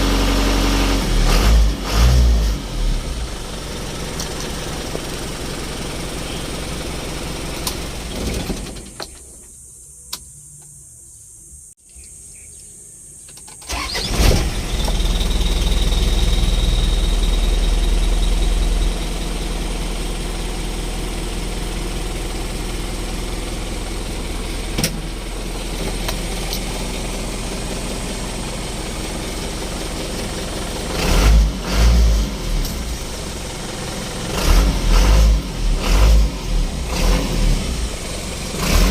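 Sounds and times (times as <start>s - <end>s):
truck engine starting and idling: 0.0s - 9.2s, 13.5s - 38.9s.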